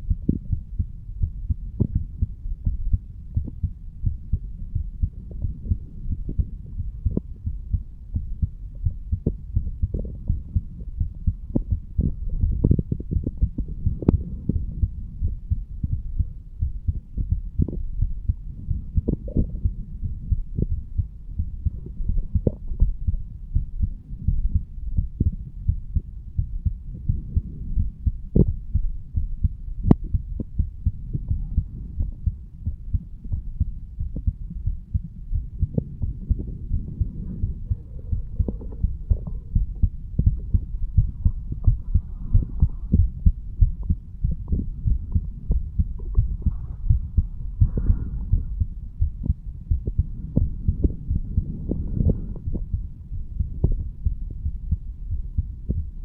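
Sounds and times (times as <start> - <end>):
heartbeat: 0.0 - 56.0.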